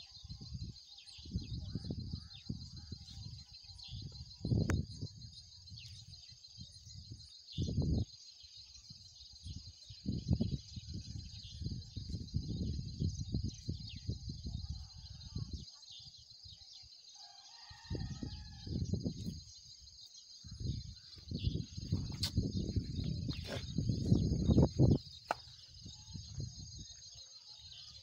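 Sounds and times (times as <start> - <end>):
wind buffeting microphone: 0.0 - 16.6, 17.7 - 28.0
crickets and insects chirping: 0.0 - 28.0.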